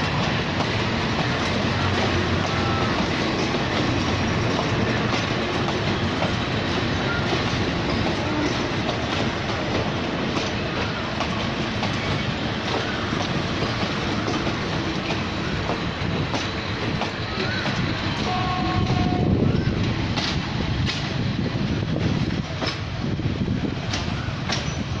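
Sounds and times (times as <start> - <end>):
train rolling past: 0.0 - 25.0.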